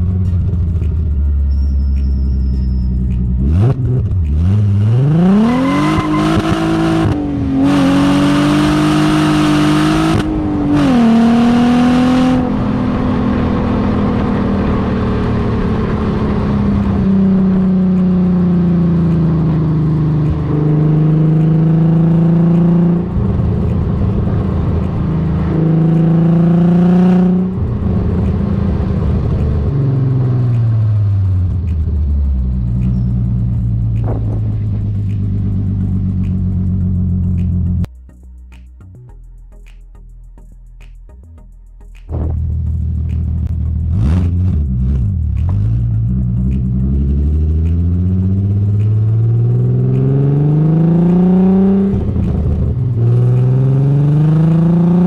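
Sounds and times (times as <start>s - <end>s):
car engine accelerating: 0.0s - 37.9s, 41.9s - 55.0s.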